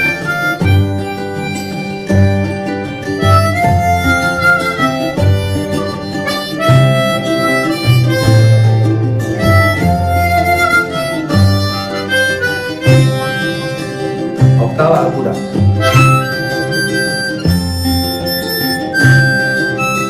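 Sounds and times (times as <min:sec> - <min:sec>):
guitar and bass backing track: 0:00.0 - 0:20.0
harmonica melody: 0:00.0 - 0:20.0.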